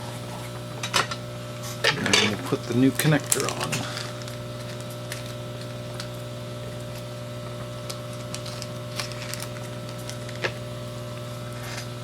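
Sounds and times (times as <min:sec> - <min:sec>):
hot air station humming: 0:00.0 - 0:12.0.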